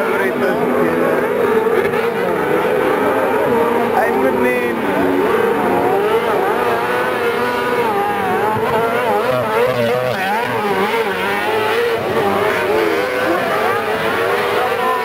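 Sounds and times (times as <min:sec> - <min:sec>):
racing buggy engines revving: 0:00.0 - 0:15.0.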